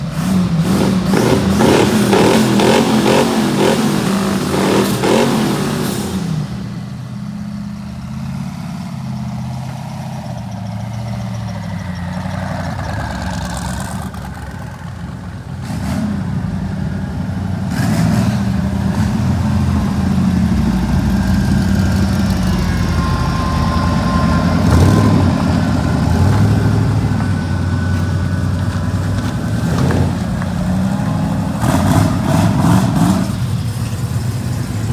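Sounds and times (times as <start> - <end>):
car engines idling and revving: 0.0 - 34.9.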